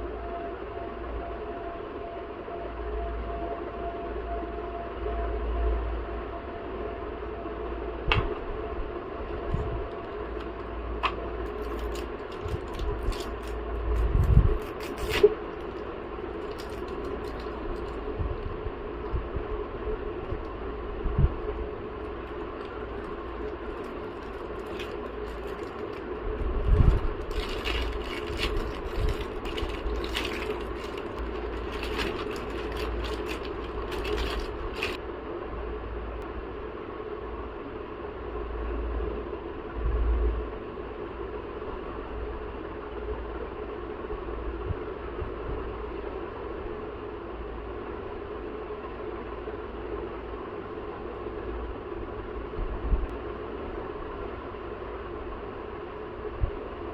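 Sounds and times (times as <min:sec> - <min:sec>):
steady hum: 0:00.0 - 0:56.9.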